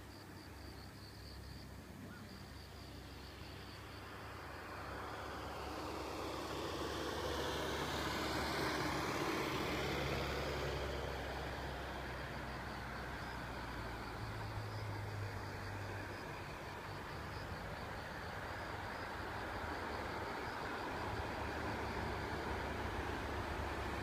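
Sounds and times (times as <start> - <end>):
pulsing insect chirp: 0.0 - 24.0
low engine hum: 0.1 - 24.0
dump truck passing: 3.8 - 24.0.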